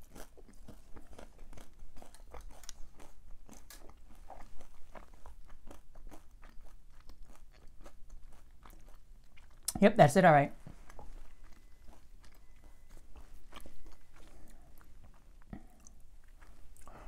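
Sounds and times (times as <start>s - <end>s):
chip crunching while chewed: 0.0s - 9.8s, 10.9s - 17.0s.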